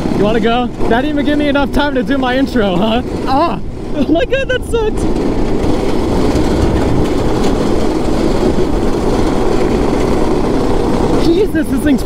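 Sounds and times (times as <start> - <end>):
go-kart engine running hard: 0.0 - 12.0
tyres rumbling on gravel: 0.0 - 12.0.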